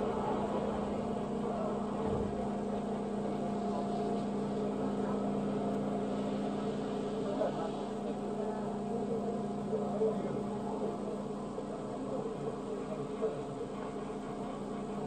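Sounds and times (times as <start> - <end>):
constant low hum: 0.0 - 15.0
subway train rumble: 0.0 - 15.0.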